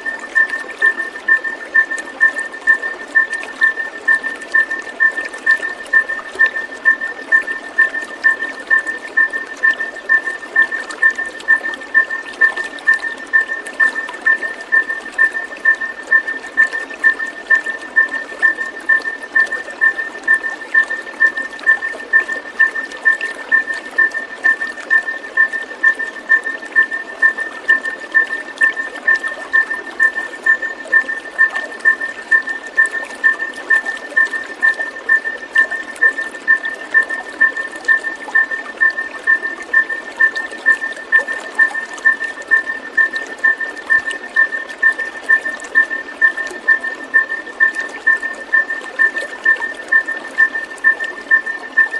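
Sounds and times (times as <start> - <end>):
water trickling: 0.0 - 51.9.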